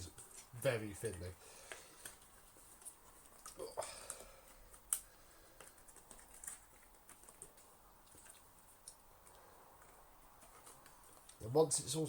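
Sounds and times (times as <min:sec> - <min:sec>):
small clicks and rustles: 0:00.0 - 0:11.6.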